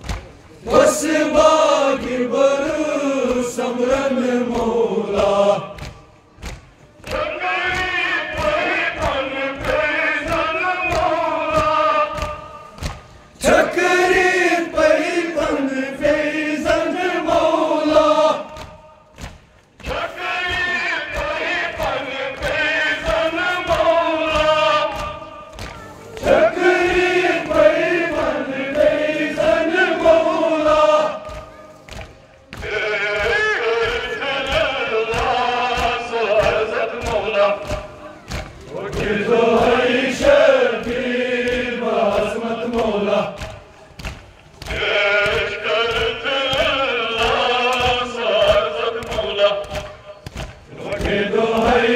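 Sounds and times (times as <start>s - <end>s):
crowd of men chanting: 0.6s - 6.1s, 7.0s - 19.1s, 19.8s - 32.0s, 32.6s - 43.7s, 44.6s - 51.9s.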